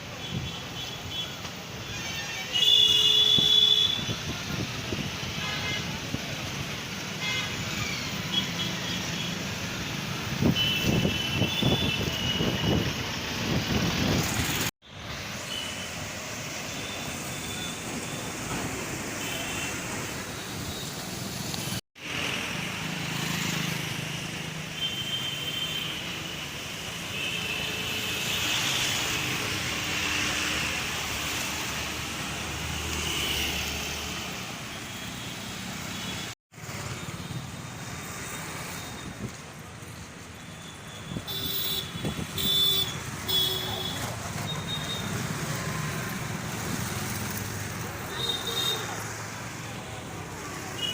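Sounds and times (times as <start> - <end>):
road traffic: 0.0 - 50.9.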